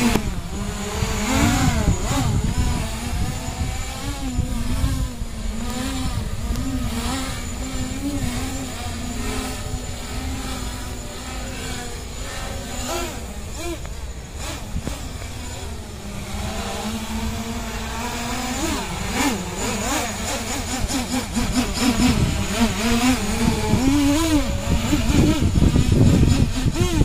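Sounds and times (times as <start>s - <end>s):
drone motors buzzing: 0.0s - 27.0s.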